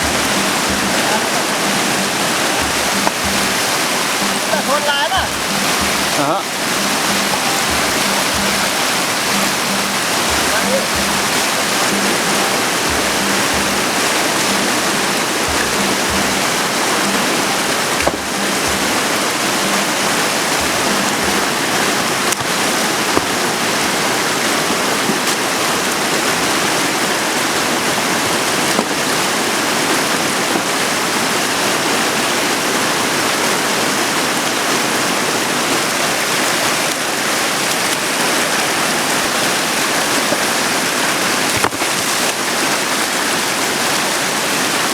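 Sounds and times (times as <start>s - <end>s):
river rushing: 0.0s - 44.9s.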